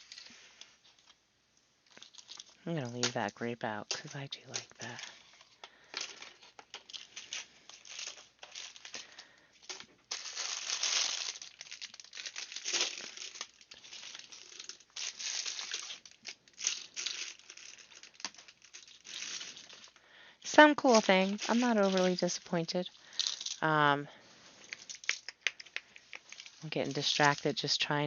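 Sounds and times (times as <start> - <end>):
plastic packaging crinkling: 1.8 - 28.0.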